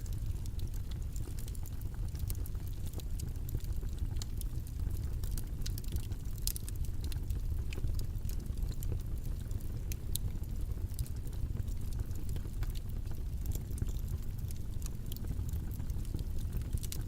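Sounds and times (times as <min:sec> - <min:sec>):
irregular crackles and clicks: 0:00.0 - 0:17.0.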